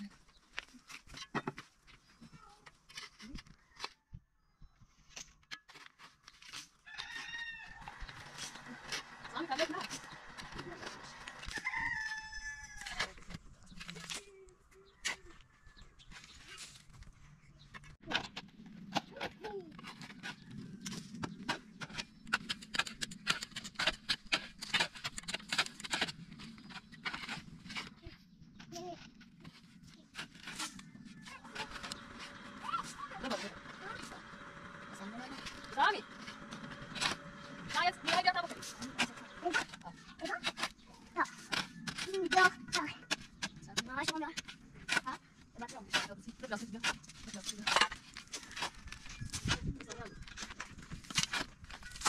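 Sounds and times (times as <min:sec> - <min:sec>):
shovel scraping stony soil: 0:05.2 - 0:15.4, 0:18.1 - 0:52.0.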